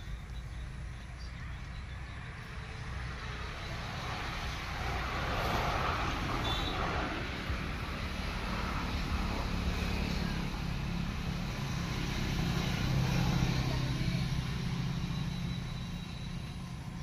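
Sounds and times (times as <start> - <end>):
engine running low rumble: 0.0 - 17.0.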